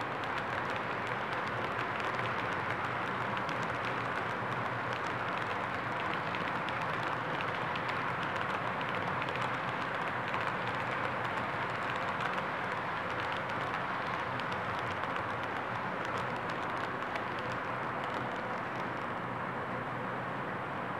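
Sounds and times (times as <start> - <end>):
small irregular clicks: 0.0 - 19.2
model train wheels rolling on rails: 0.0 - 19.7.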